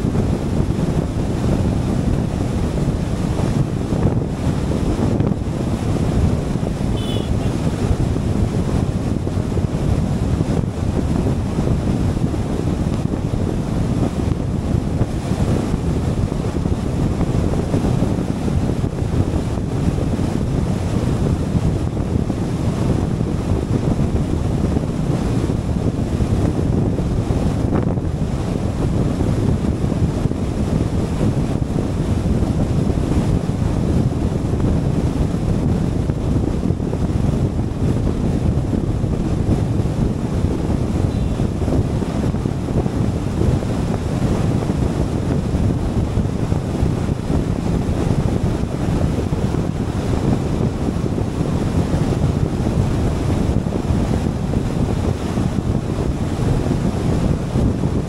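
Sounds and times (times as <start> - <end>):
car wind and tyre rumble: 0.0 - 58.0
wind buffeting microphone: 0.0 - 58.0.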